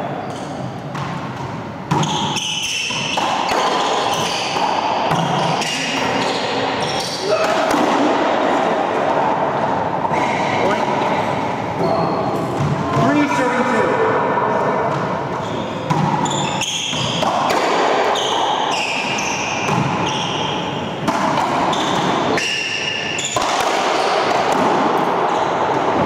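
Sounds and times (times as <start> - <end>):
sneakers squeaking on floor: 0.0 - 7.6, 10.0 - 13.4, 14.8 - 26.0.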